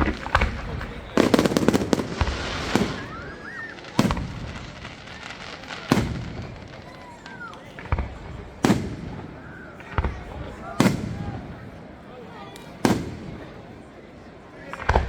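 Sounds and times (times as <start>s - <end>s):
firework bangs: 0.0s - 11.8s, 12.6s - 13.8s, 14.7s - 15.0s
distant fireworks background: 0.0s - 15.0s.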